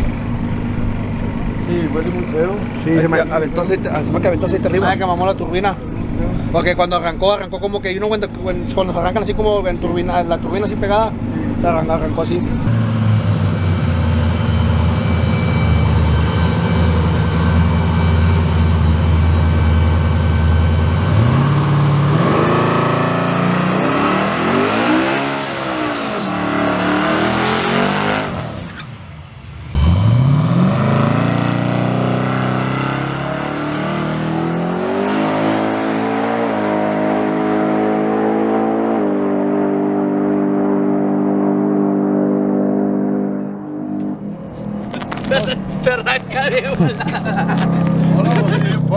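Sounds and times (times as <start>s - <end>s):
truck engine idling and revving: 0.0s - 48.9s.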